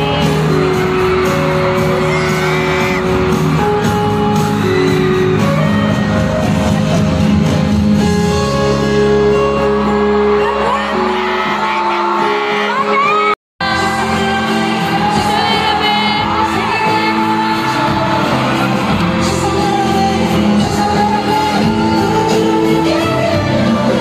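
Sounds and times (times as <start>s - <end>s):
fans whooping and screaming: 0.0s - 7.3s, 9.6s - 24.0s.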